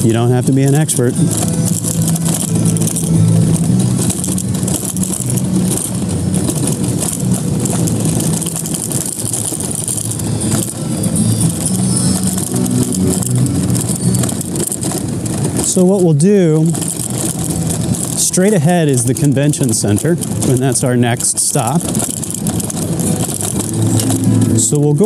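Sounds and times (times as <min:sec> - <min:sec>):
car engine running: 0:00.0 - 0:25.0
road noise: 0:00.0 - 0:25.0.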